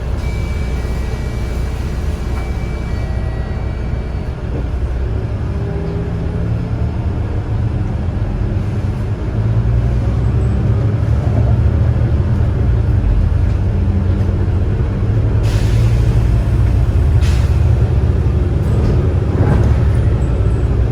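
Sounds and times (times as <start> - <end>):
bus engine running: 0.0 - 20.9.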